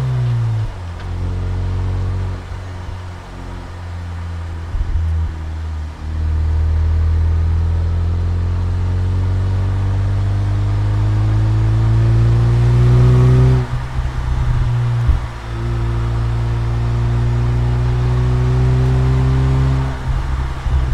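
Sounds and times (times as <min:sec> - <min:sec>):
car engine accelerating: 0:00.0 - 0:20.9.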